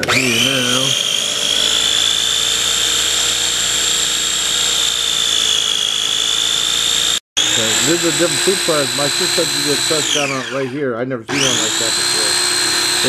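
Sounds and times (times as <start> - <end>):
food chopper motor whining: 0.0 - 13.0.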